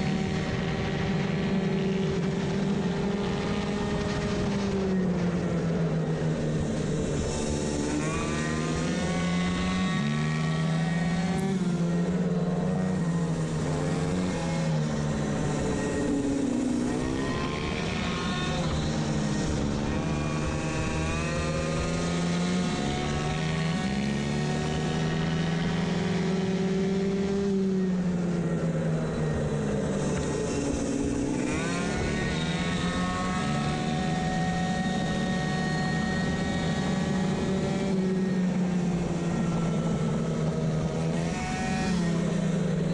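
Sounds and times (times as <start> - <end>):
moped engine revving: 6.3 - 42.9.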